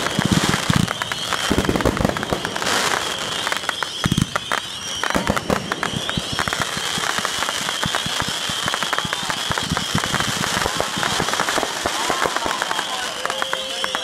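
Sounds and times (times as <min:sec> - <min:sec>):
fireworks booms: 0:00.0 - 0:14.0
fireworks crackling pops: 0:00.0 - 0:14.0.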